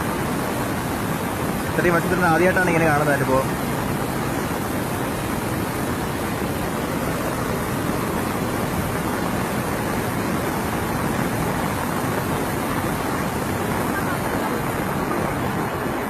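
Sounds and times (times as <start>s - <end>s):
floodwater roaring: 0.0s - 16.0s.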